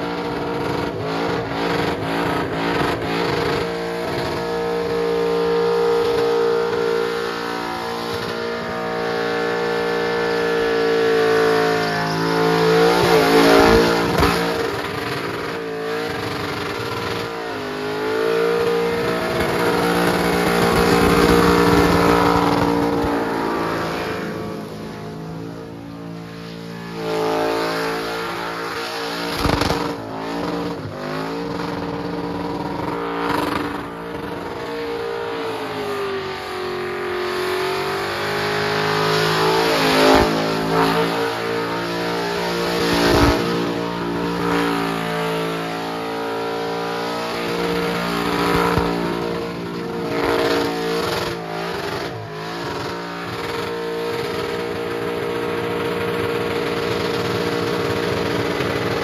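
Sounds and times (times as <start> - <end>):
car engine revving high: 0.0 - 59.0
spinning tyres hissing: 0.0 - 59.0.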